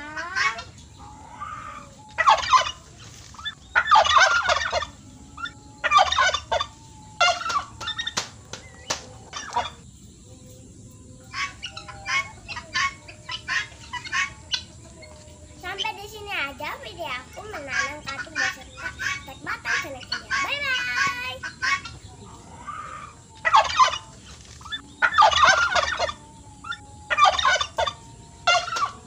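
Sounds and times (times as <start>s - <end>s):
fowl calling: 0.0s - 10.1s, 11.0s - 29.0s.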